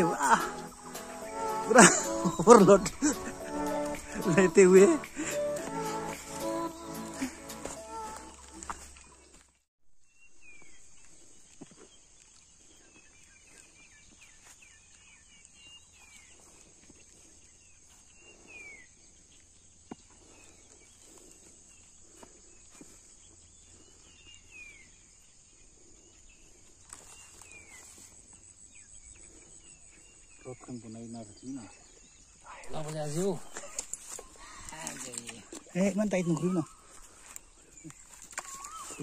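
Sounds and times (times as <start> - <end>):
high-pitched insect chorus: 0.0 - 9.1, 10.5 - 39.0
bird chirping: 0.0 - 39.0.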